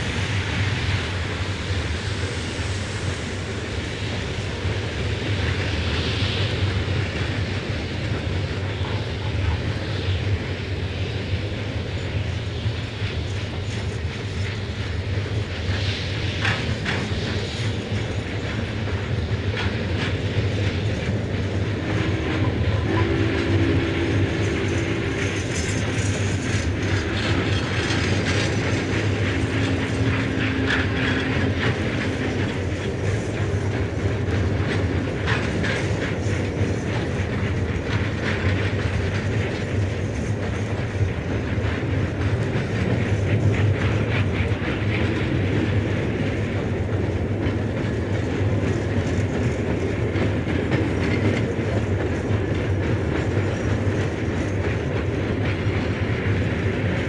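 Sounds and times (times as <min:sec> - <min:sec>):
steam train rumble and clatter: 0:00.0 - 0:57.0.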